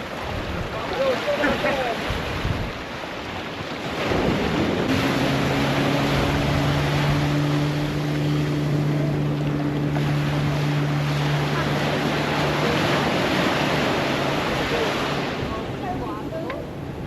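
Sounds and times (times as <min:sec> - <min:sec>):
boat motor droning: 0:00.0 - 0:17.0
rushing water: 0:00.0 - 0:17.0
wind buffeting microphone: 0:00.0 - 0:17.0.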